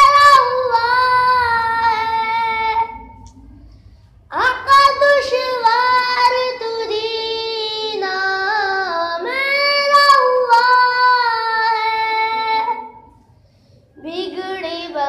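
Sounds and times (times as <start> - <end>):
boy singing devotional song: 0.0 - 3.2, 4.3 - 13.1, 14.0 - 15.0.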